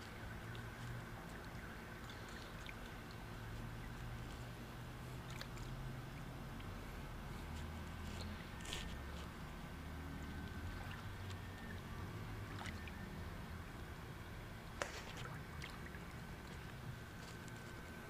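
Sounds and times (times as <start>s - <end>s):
faint pond water movement: 0.0s - 18.0s
low steady rumble: 0.0s - 18.0s.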